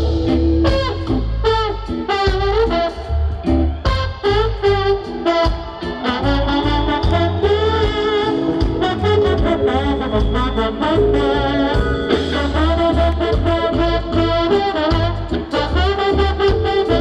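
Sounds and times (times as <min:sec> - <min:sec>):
live band music: 0:00.0 - 0:17.0
trombone playing lead: 0:00.0 - 0:17.0.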